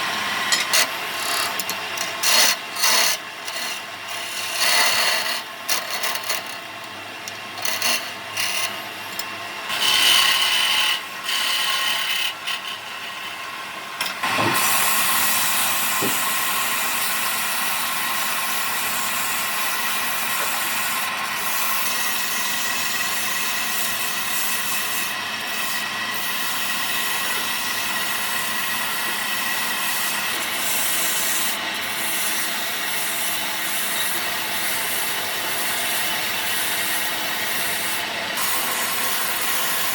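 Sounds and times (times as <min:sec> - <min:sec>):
rasp rubbing on wood: 0:00.7 - 0:06.6, 0:07.6 - 0:08.8, 0:09.7 - 0:13.2, 0:17.0 - 0:39.9.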